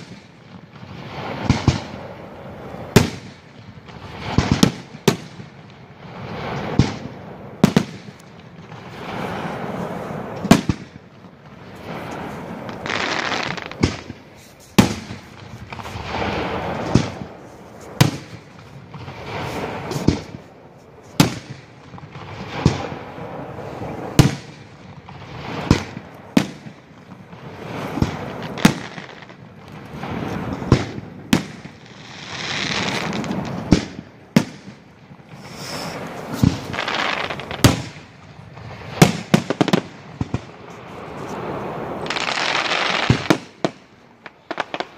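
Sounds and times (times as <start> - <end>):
fireworks bursting with bangs: 0.0 - 44.9
fireworks rushing noise: 0.0 - 44.9.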